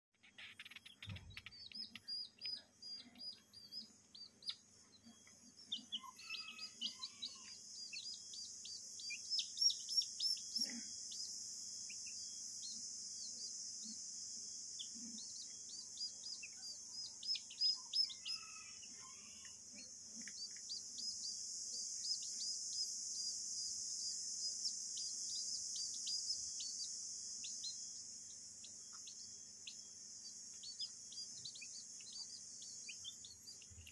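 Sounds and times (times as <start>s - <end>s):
chicks peeping: 0.2s - 33.9s.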